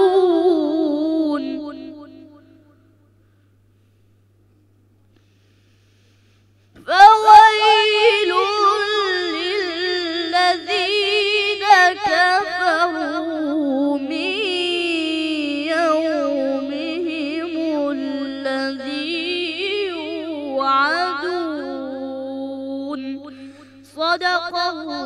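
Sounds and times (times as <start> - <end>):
boy reciting melodically: 0.0 - 2.5, 6.8 - 25.0.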